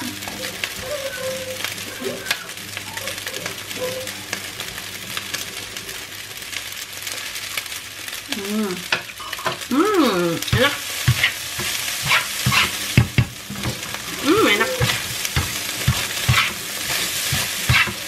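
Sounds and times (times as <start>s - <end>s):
fried rice sizzling in a wok: 0.0s - 18.0s.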